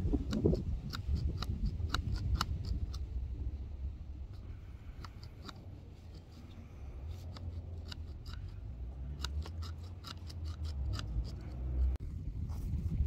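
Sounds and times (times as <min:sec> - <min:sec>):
hacksaw cutting plastic: 0:00.0 - 0:03.1, 0:04.4 - 0:12.0
low rumble: 0:00.0 - 0:09.3, 0:10.7 - 0:13.0.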